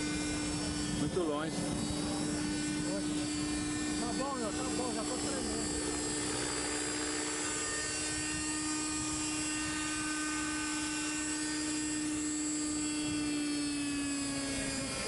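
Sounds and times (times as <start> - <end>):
model helicopter high-pitched whine: 0.0 - 15.0.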